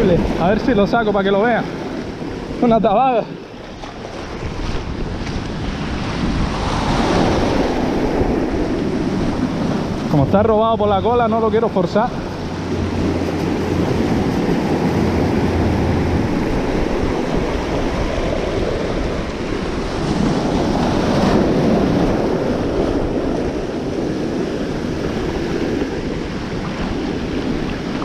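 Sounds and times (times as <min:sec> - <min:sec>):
surf breaking over rocks: 0:00.0 - 0:28.0
wind buffeting microphone: 0:00.0 - 0:28.0.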